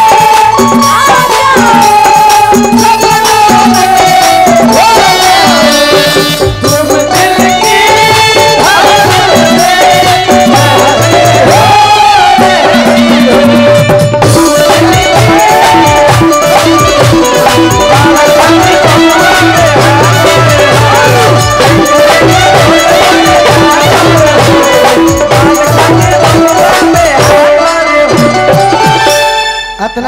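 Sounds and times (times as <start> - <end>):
steady percussion: 0.0 - 30.0.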